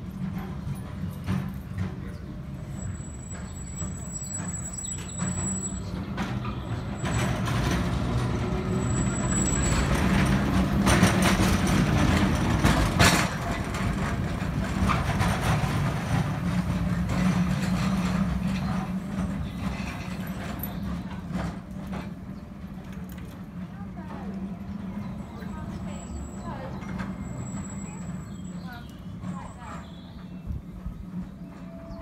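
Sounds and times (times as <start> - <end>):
tram wheels rumbling on rails: 0.0 - 32.0.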